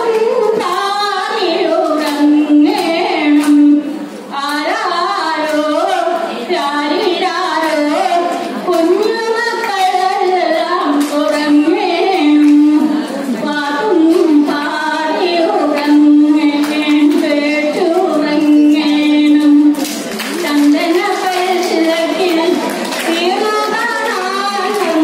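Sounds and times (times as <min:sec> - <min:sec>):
woman singing over loudspeakers: 0:00.0 - 0:25.0.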